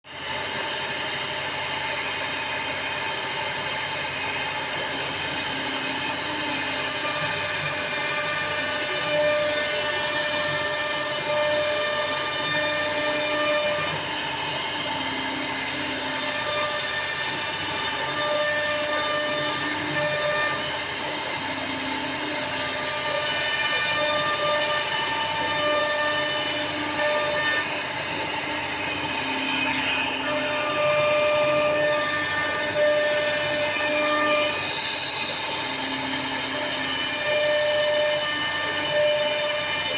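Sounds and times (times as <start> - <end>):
motors singing in steady tones: 0.1 - 39.9
router spindle running: 0.1 - 39.9.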